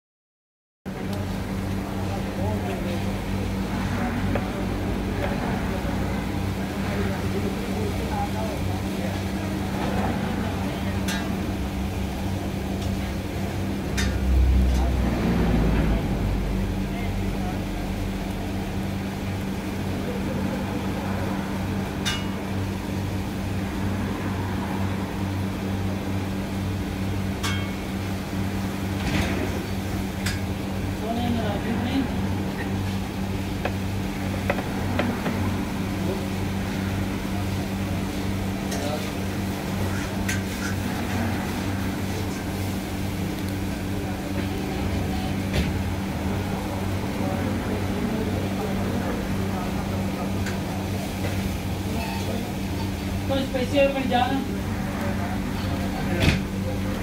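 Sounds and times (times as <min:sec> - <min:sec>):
low machine hum: 0:00.9 - 0:57.0.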